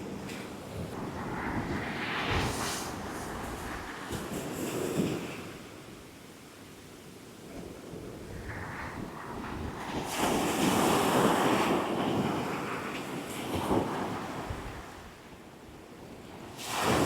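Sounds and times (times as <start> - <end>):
wind buffeting microphone: 0.0 - 6.2, 7.5 - 15.2.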